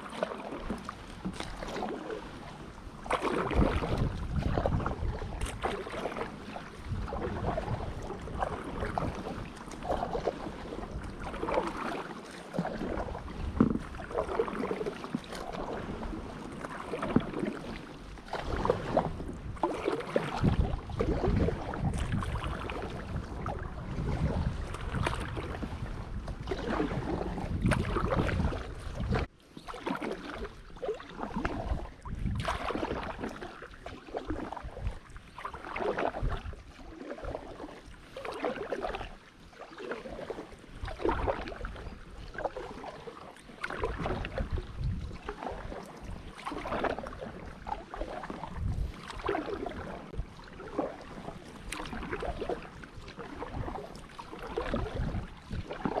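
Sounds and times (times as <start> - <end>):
wind rumble on microphone: 0.0 - 29.3, 30.2 - 43.0, 43.6 - 56.0
kayak paddle strokes in water: 0.0 - 56.0.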